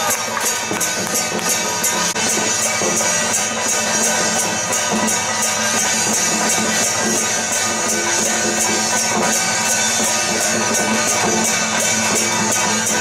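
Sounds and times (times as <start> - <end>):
high rattling accent: 0.0 - 13.0.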